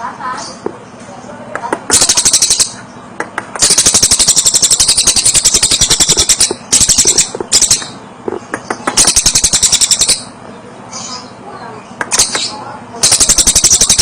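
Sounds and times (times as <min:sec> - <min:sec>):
bird calling in rattling trills: 0:01.7 - 0:14.0.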